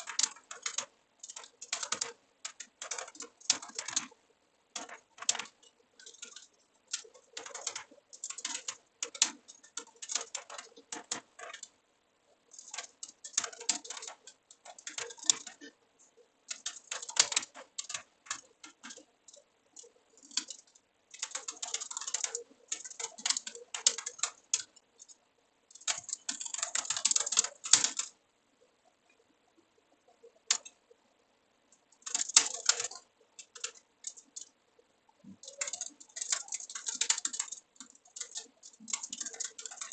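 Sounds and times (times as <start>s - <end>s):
computer keyboard typing: 0.0s - 4.2s, 4.8s - 11.8s, 12.5s - 28.2s, 30.4s - 30.8s, 31.8s - 39.9s.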